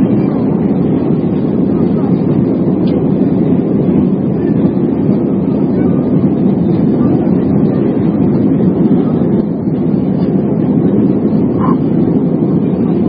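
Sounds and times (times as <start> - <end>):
airplane engines rumbling: 0.0 - 13.0
rushing air in cabin: 0.0 - 13.0.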